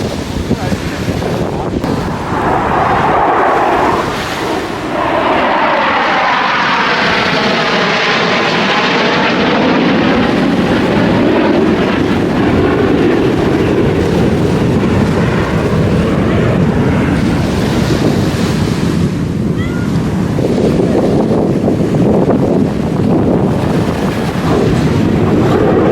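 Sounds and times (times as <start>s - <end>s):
jet aircraft engines roaring: 0.0s - 25.9s
wind on microphone: 0.0s - 25.9s.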